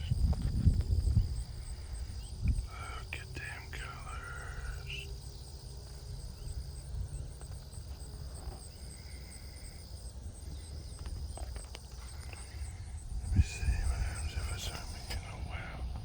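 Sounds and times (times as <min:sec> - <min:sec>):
wind rumble on microphone: 0:00.0 - 0:09.0, 0:09.9 - 0:16.0
insects buzzing and chirping: 0:00.0 - 0:16.0.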